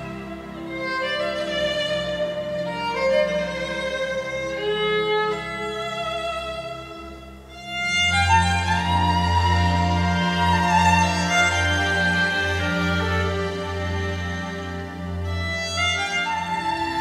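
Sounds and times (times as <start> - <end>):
low sustained accompaniment: 0.0 - 17.0
slow violin melody: 0.0 - 17.0.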